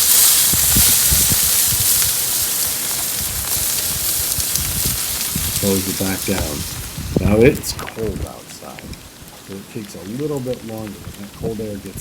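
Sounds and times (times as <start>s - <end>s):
low rumbles: 0.0s - 12.0s
meat fat sizzling over charcoal: 0.0s - 12.0s.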